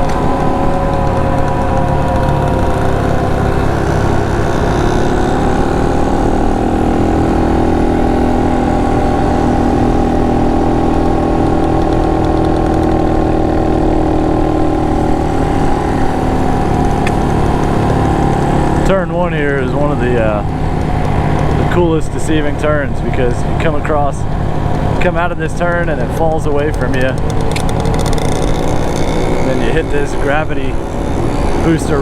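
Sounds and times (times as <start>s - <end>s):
motorcycle engine cruising: 0.0s - 32.0s.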